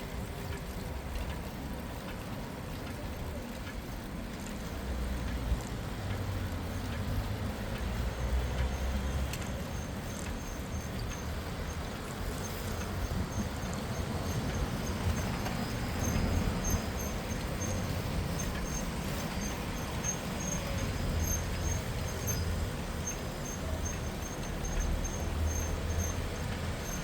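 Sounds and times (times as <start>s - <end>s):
traffic and road noise: 0.0s - 27.0s.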